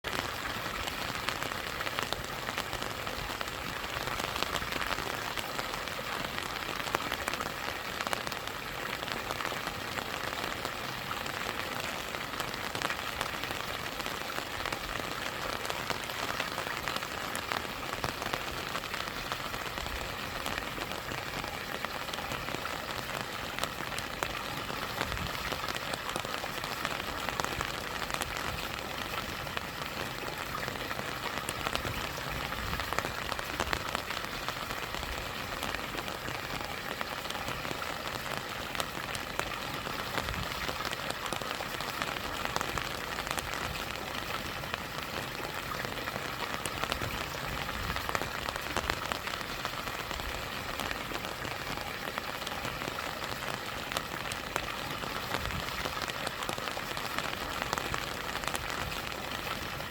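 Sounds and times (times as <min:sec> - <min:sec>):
rain drops ticking: 0:00.0 - 0:59.9
stream and small waterfall: 0:00.0 - 0:59.9.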